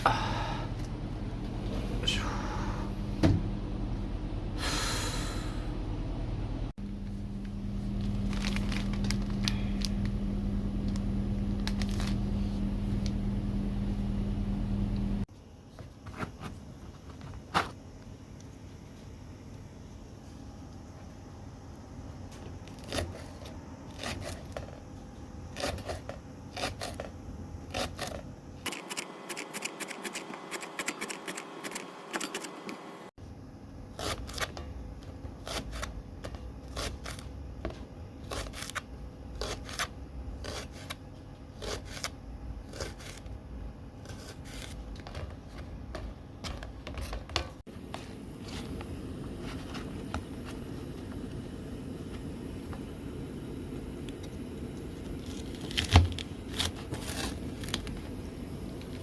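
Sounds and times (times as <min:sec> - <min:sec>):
background hum: 0:00.0 - 0:59.0.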